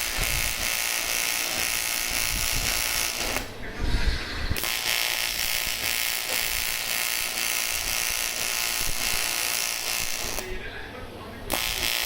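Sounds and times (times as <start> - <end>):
welding arc buzzing and hissing: 0.0 - 10.6, 11.5 - 12.0.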